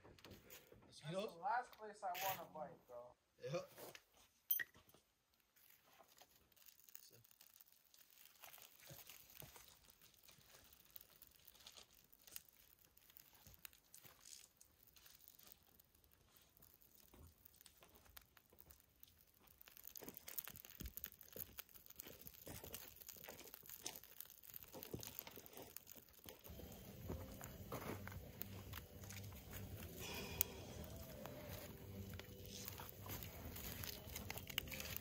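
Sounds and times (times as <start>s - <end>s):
crackling campfire: 3.6s - 35.0s.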